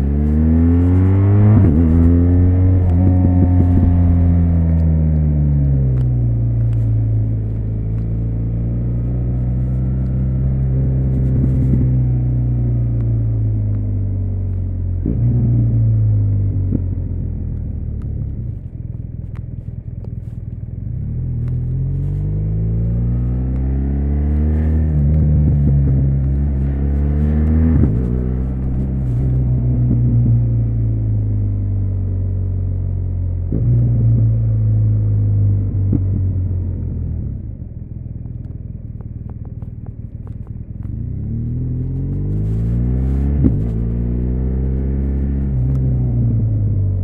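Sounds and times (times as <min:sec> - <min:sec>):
motorcycle engine: 0:00.0 - 0:32.2, 0:36.1 - 0:47.0.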